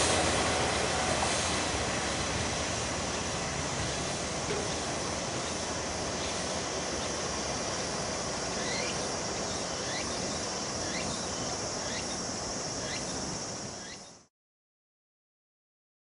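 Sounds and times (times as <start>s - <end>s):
diesel railcar rumble: 0.0s - 13.9s
cicadas chorus: 0.0s - 14.3s.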